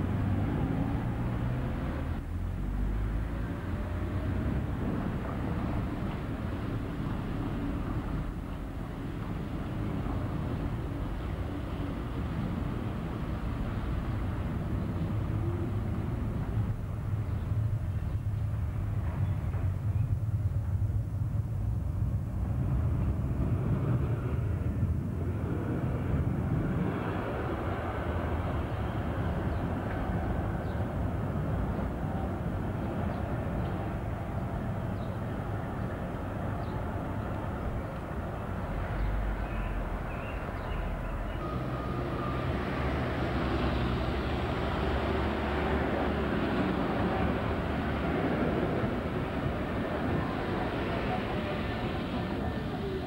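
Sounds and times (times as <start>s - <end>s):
traffic noise: 0.0s - 53.0s
tram rumbling on track: 0.0s - 53.0s.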